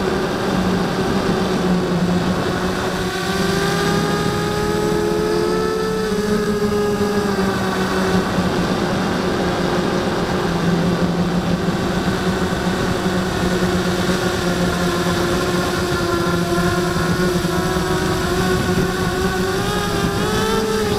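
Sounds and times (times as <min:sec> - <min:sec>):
quadcopter propellers buzzing: 0:00.0 - 0:20.9.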